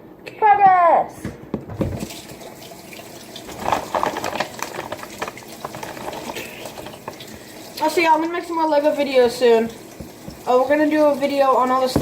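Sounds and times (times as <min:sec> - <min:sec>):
water running from a tap: 0:01.8 - 0:12.0
water splashing: 0:01.8 - 0:12.0.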